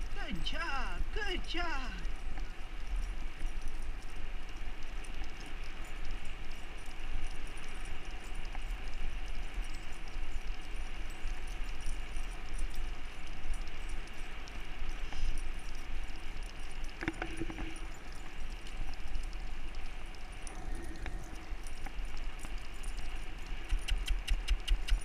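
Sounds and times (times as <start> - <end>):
patter of dog paws on asphalt: 0.0 - 25.0.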